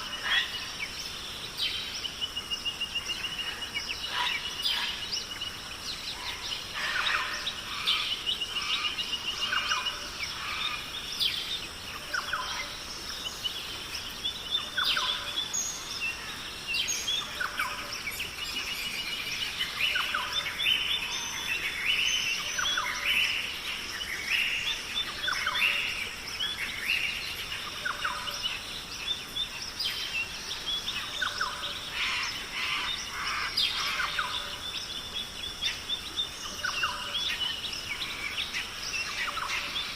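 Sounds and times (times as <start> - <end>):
birds chirping: 0.0 - 39.9
steady high-pitched hiss: 0.0 - 39.9.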